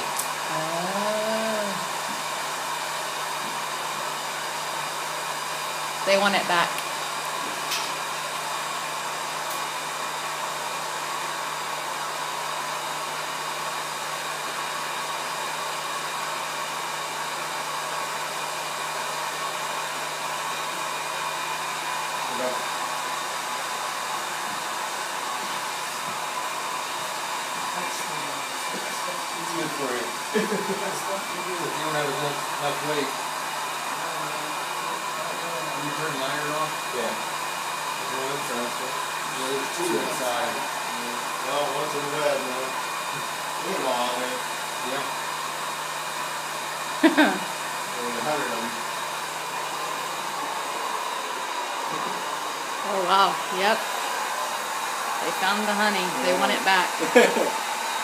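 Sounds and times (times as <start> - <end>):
honey extractor motor whirring: 0.0 - 58.0.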